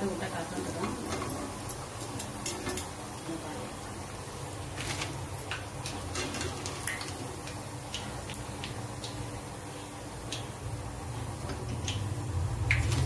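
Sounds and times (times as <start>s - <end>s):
crackles and pops of frying: 0.0s - 13.0s
hot oil sizzling: 0.0s - 13.0s.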